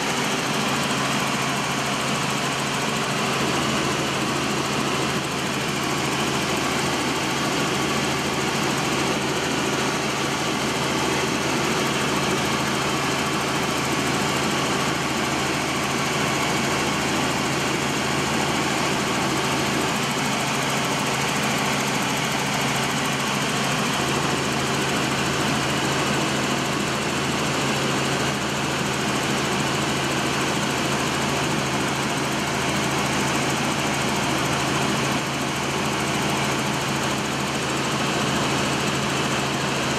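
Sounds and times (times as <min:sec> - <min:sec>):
helicopter cabin drone: 0:00.0 - 0:39.9.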